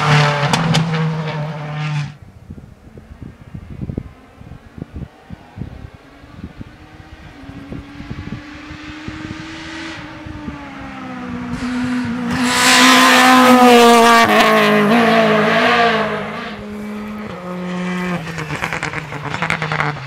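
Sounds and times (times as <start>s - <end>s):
rally car engine passing at speed: 0.0s - 2.2s, 2.9s - 20.0s.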